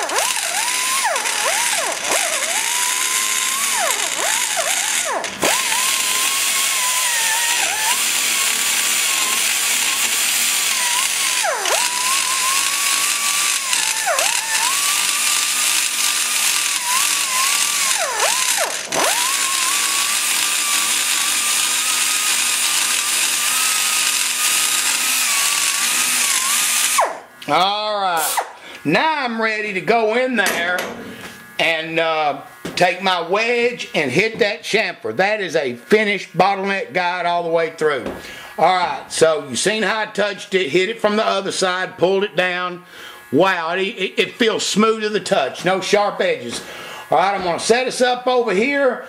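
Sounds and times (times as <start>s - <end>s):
die grinder whining on metal: 0.0s - 48.4s.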